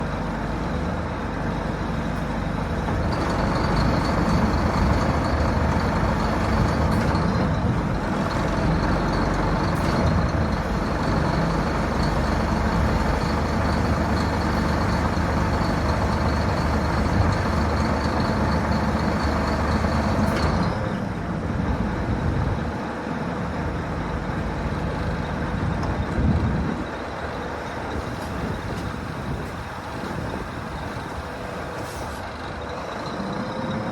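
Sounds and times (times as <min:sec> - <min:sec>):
truck diesel engine running: 0:00.0 - 0:33.9.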